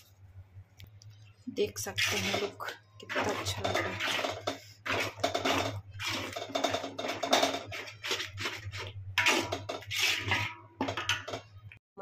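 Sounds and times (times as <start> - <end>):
spatula scraping pan: 1.7 - 11.5
oil sizzling: 1.8 - 11.8.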